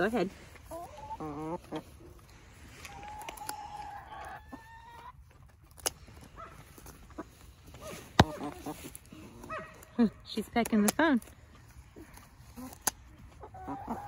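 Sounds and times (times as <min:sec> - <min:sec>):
hen calling and clucking: 0:00.0 - 0:14.0.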